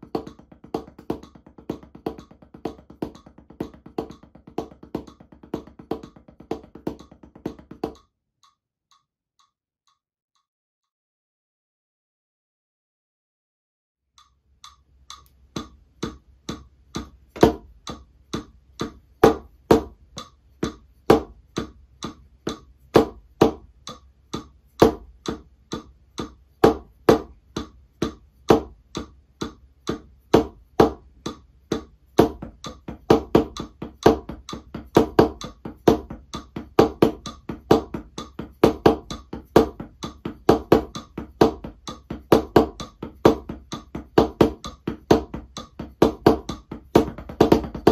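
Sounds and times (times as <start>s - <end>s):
drumsticks on practice pad: 0.0s - 10.0s, 14.2s - 47.9s.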